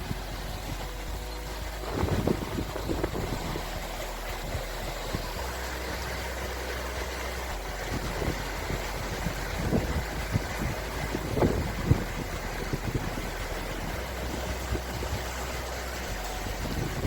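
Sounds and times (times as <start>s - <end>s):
low rumble: 0.0s - 17.0s
steady rushing noise: 0.0s - 17.0s.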